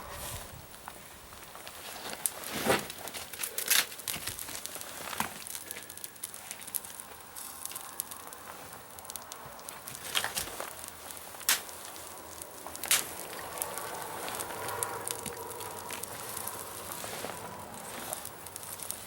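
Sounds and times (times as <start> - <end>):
wood fire crackling: 0.0 - 19.0
sharp fire pops: 0.7 - 19.0.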